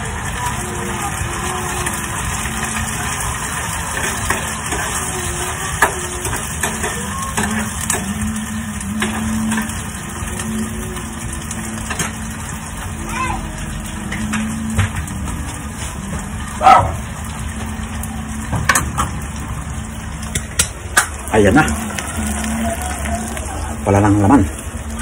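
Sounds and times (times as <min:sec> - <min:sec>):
oil sizzling in a frying pan: 0:00.0 - 0:25.0.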